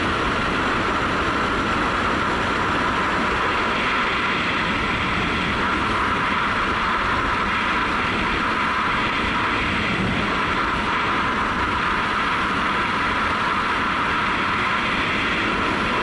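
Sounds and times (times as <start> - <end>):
road noise: 0.0 - 16.0
wind rush: 0.0 - 16.0.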